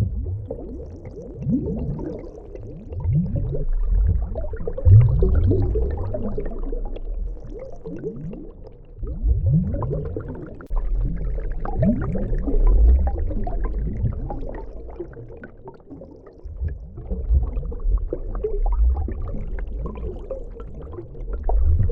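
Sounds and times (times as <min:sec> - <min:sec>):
underwater bubbling and gurgling: 0:00.0 - 0:21.9.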